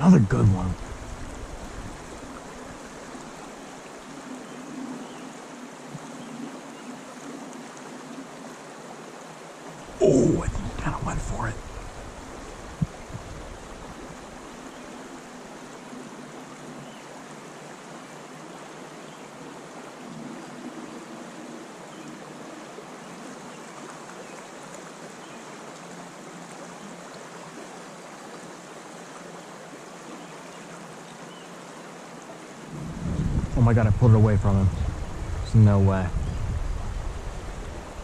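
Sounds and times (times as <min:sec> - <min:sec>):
creek water trickling: 0:00.0 - 0:38.0.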